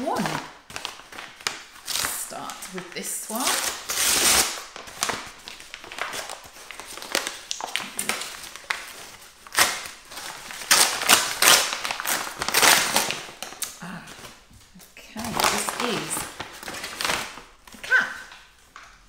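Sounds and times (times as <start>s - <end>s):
paper bag tearing and crinkling: 0.0s - 14.4s, 15.1s - 18.6s.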